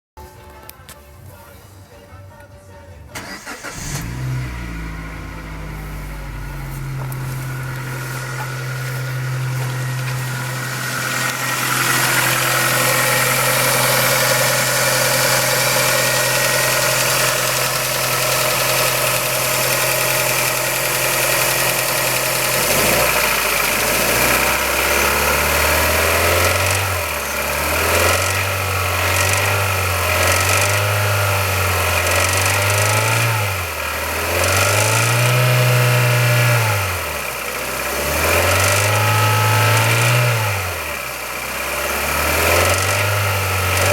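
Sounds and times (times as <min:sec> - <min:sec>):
car engine idling with rattle: 0:03.3 - 0:43.9.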